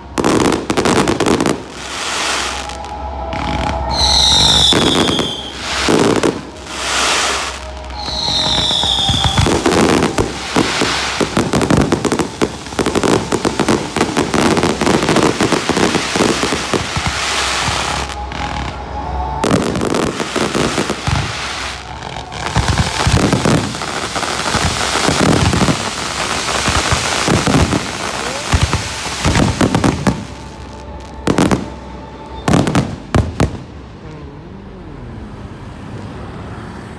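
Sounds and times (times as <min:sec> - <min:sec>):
fireworks crackling and banging: 0:00.0 - 0:34.1
whistling firework shell: 0:00.2 - 0:33.2.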